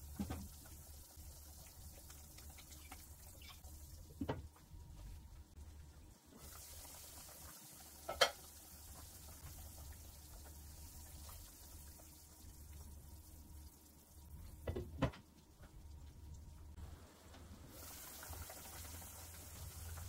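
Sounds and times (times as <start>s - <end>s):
pot of broth simmering: 0.0s - 4.1s, 5.8s - 14.6s, 15.6s - 20.0s.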